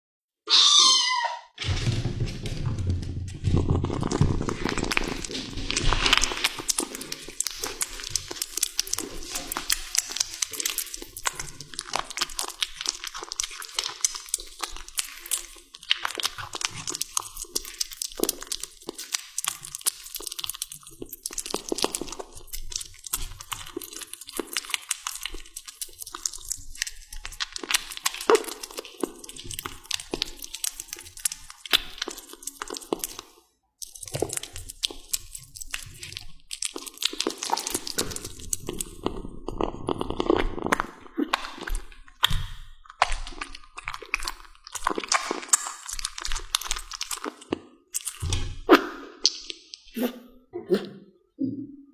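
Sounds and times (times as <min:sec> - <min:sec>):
kitten eating wet clicks: 0:03.6 - 0:48.5.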